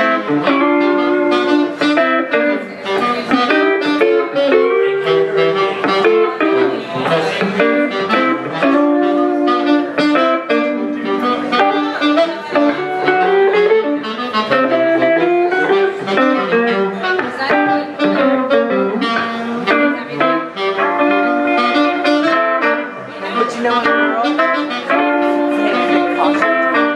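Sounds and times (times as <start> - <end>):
guitar chords: 0.0 - 26.9
saxophone melody: 0.0 - 26.9.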